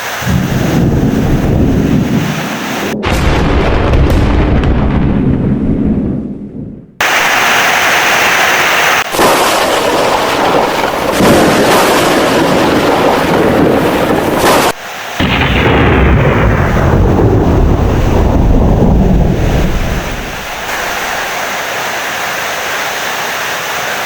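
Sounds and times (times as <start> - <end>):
heavy rain: 0.0 - 5.3, 7.0 - 24.0
thunder rumbling: 0.1 - 8.4, 9.0 - 21.4.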